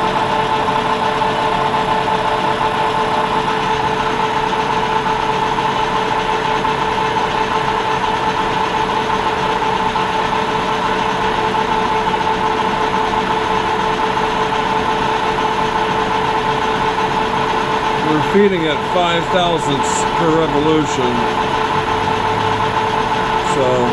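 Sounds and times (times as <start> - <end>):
metal lathe motor whining: 0.0 - 23.9.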